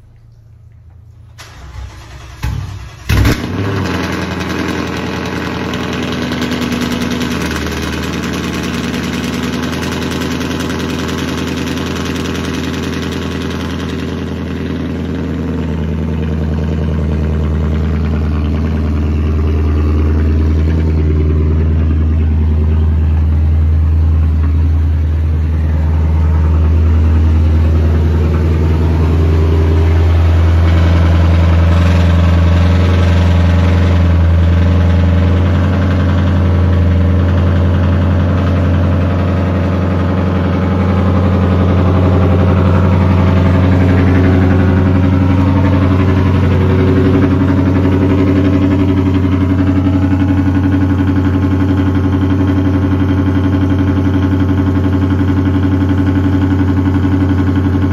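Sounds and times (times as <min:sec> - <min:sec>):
car engine starting and idling: 0:00.0 - 0:57.9.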